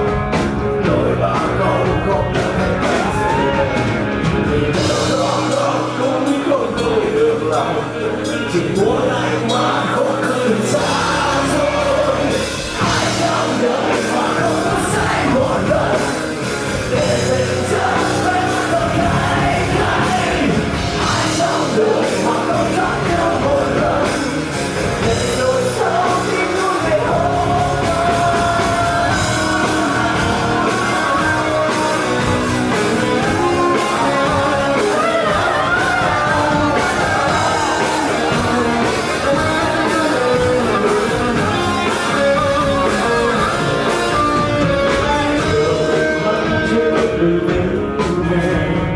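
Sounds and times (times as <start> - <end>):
lead singer singing: 0.0 - 48.9
rock band playing live: 0.0 - 48.9.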